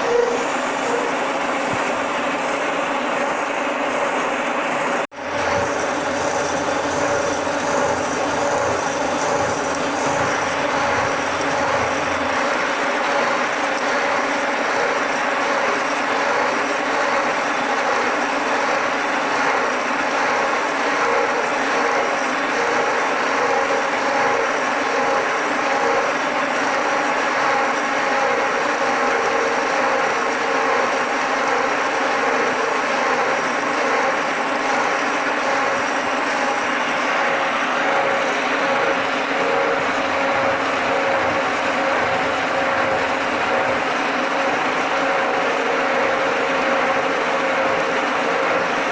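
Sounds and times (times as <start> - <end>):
milling machine cutting steel: 0.0 - 48.9.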